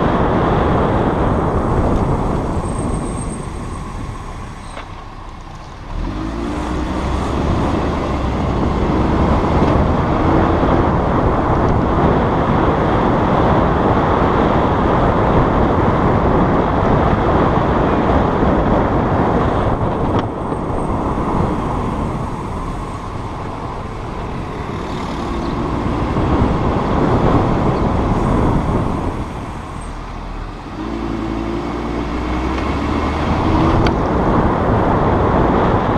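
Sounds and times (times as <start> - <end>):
car road and running noise: 0.0 - 35.9.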